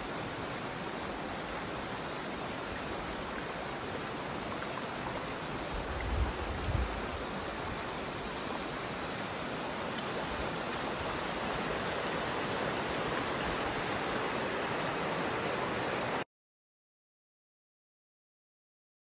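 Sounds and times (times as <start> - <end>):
creek running over stones: 0.0 - 16.2.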